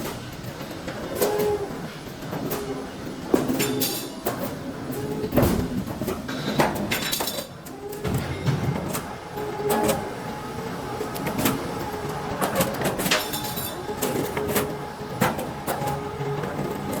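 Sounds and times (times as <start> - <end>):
steady mechanical noise: 0.0 - 17.0.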